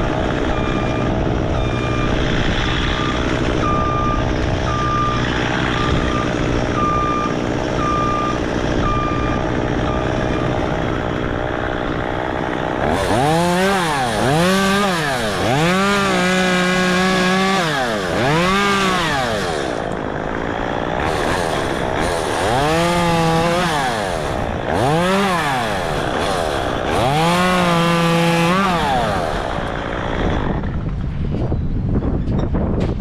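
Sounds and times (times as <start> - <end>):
chainsaw revving and idling: 0.0 - 31.0.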